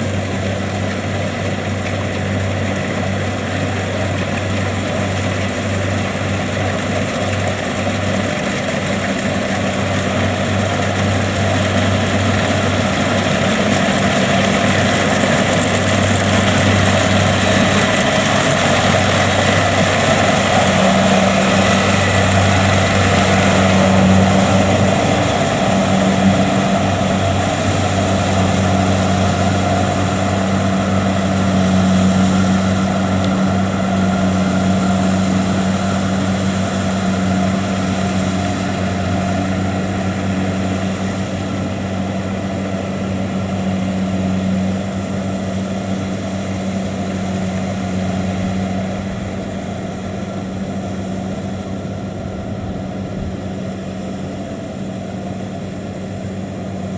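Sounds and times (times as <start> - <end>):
combine harvester engine droning: 0.0 - 56.9.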